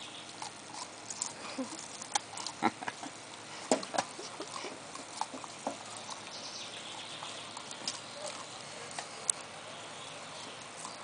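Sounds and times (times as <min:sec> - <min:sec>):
dogs crunching corn cob: 0:00.0 - 0:11.0.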